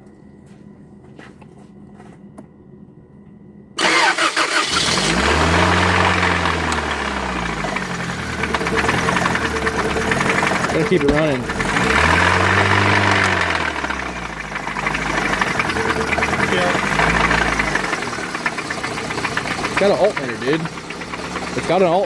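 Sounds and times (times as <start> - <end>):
car engine starting and revving: 3.8 - 22.0.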